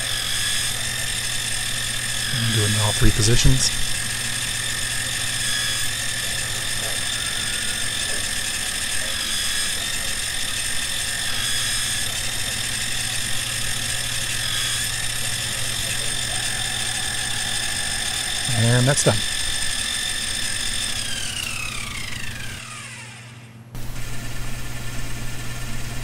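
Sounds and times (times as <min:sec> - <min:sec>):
milling machine whine: 0:00.0 - 0:26.0.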